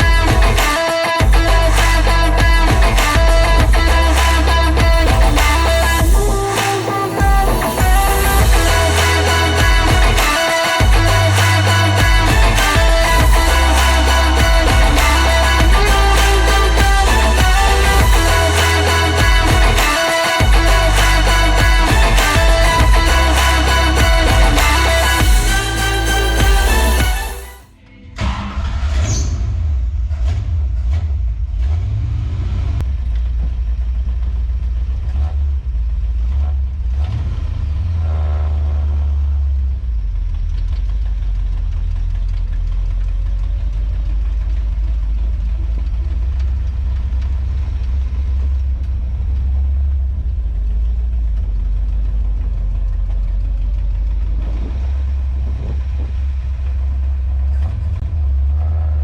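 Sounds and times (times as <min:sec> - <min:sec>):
car engine deep rumble: 0:00.0 - 0:00.6, 0:01.2 - 0:06.6, 0:07.2 - 0:10.2, 0:10.8 - 0:27.0, 0:28.6 - 0:59.0.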